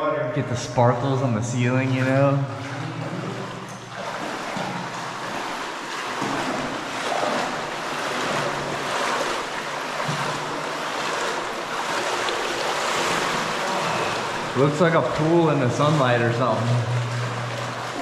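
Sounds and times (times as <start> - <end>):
water sloshing and splashing: 0.5 - 18.0.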